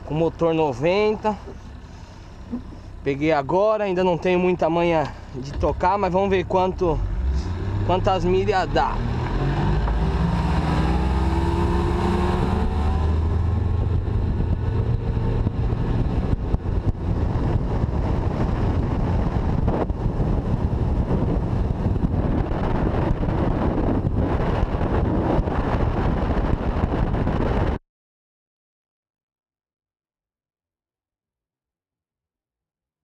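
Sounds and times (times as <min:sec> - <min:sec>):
outboard motor at full throttle: 0:00.0 - 0:27.6
wind buffeting microphone: 0:00.3 - 0:27.8.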